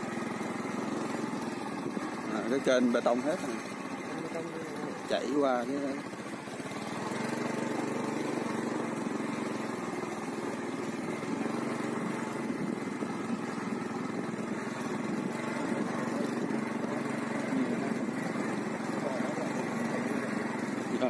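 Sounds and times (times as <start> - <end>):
small engine chugging: 0.0 - 21.0.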